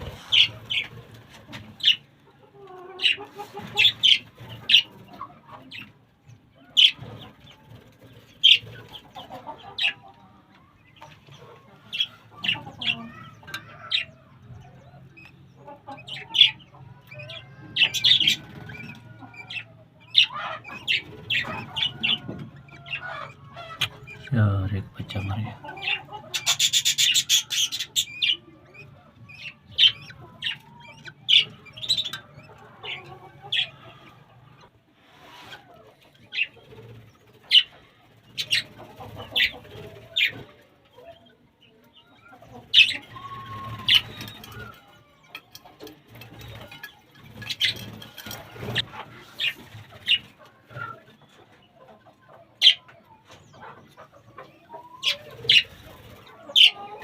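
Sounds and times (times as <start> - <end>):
pet birds chirping: 0.0 - 57.0.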